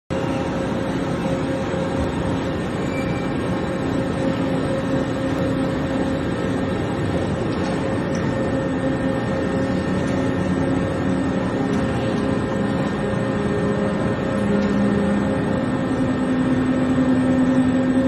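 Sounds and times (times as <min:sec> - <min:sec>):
boring mill mechanical hum: 0:00.1 - 0:18.0.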